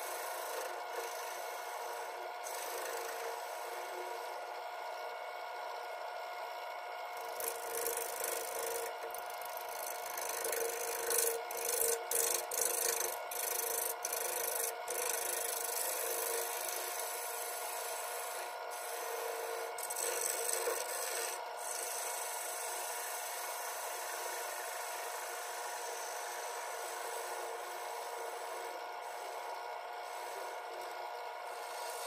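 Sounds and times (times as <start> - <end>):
gouge scraping wood on lathe: 0.0 - 4.6, 7.2 - 32.0
lathe motor humming: 0.0 - 32.0.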